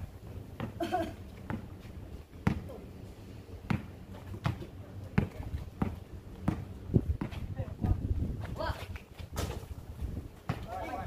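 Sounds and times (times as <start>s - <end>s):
basketball bouncing on asphalt: 0.2s - 2.8s, 3.6s - 11.0s.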